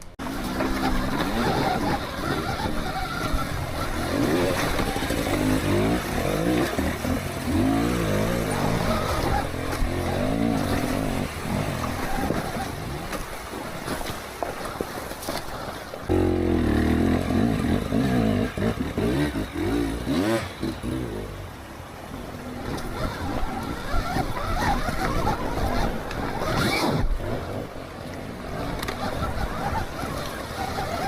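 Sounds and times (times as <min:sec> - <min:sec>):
tyre and chassis noise: 0:00.0 - 0:31.0.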